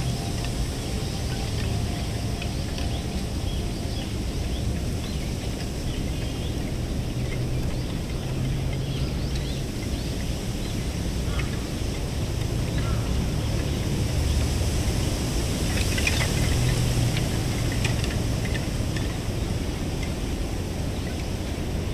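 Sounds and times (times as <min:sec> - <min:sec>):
low wind rumble: 0:00.0 - 0:21.9.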